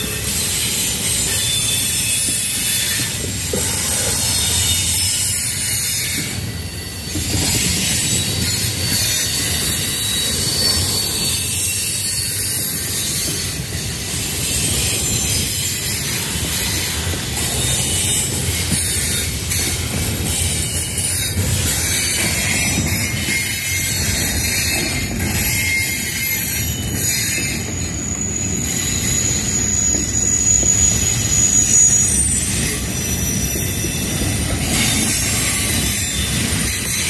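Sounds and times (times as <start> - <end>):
high-pitched wheel squeal: 0.0 - 37.0
train wheels rumbling on rail: 0.0 - 37.0.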